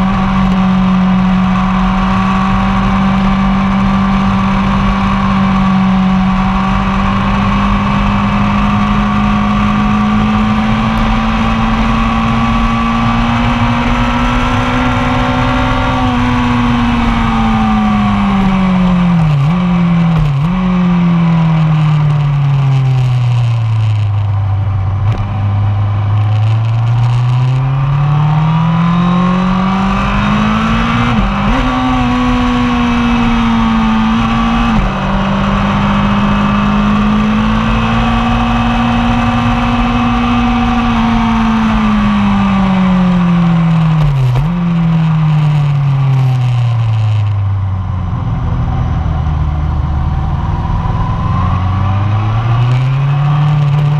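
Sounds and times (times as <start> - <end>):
motorcycle engine revving: 0.0 - 53.9
wind noise: 0.0 - 53.9.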